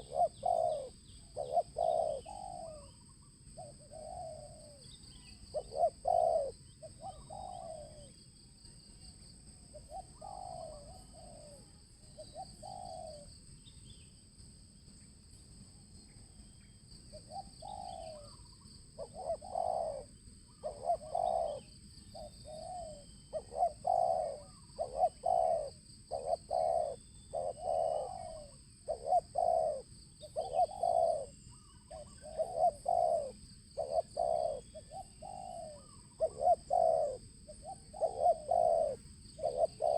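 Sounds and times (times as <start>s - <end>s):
dove cooing: 0.0s - 8.2s, 9.7s - 13.3s, 17.1s - 39.9s.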